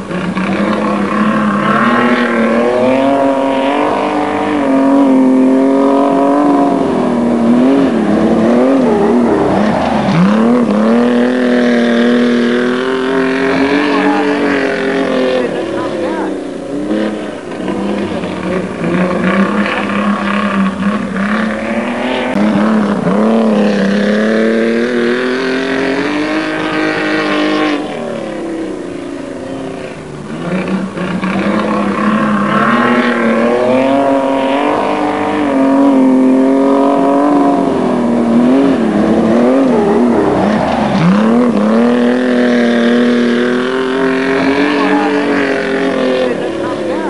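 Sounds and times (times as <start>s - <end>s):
racing car engines accelerating: 0.0s - 47.0s.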